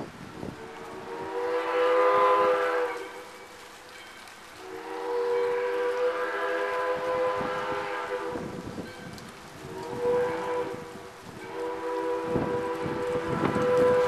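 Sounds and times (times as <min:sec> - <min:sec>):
steam whistle blasts: 0:00.3 - 0:03.5, 0:04.6 - 0:08.6, 0:09.6 - 0:14.0.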